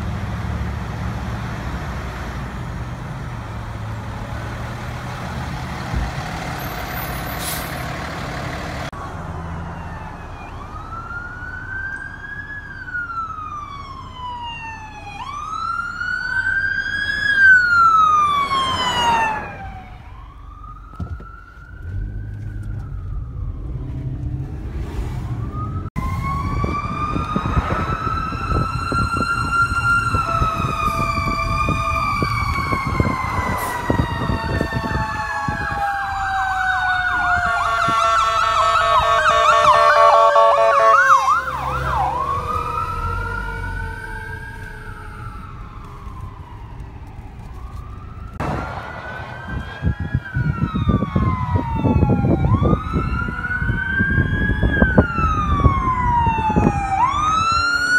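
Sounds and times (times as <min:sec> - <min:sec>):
fire engine sirens wailing: 0:00.0 - 0:57.9
truck engines rumbling: 0:00.0 - 0:57.9.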